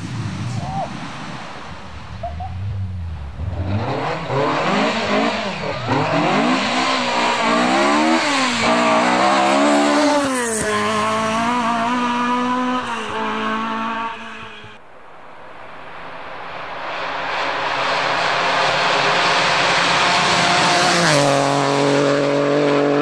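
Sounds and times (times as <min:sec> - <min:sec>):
rally car engine at full throttle: 0:00.0 - 0:14.8, 0:16.1 - 0:23.0.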